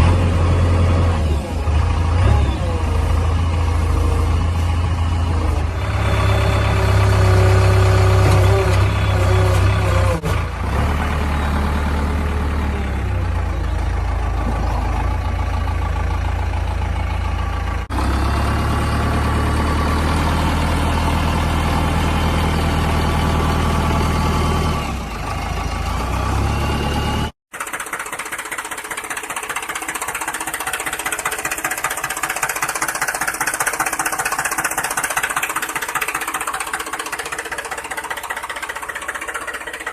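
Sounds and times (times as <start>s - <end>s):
engine droning and knocking: 0.0s - 39.9s
higher-pitched rattling engine: 0.0s - 39.9s.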